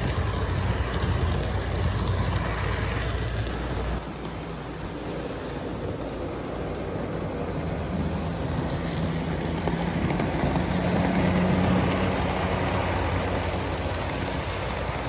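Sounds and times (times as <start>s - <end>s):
model train motors humming: 0.0s - 15.0s
wheels rumbling over rails: 0.0s - 15.0s.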